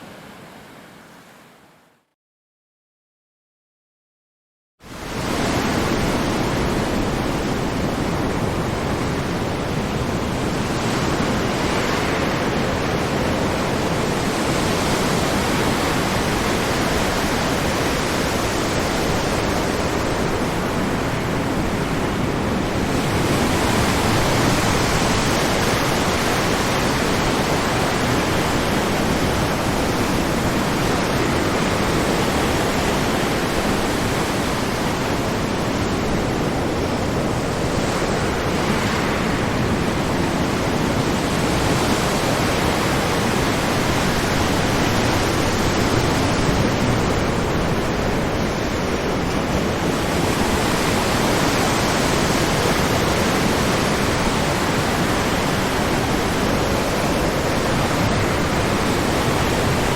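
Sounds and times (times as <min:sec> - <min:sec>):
ocean waves breaking: 0:05.2 - 0:59.9.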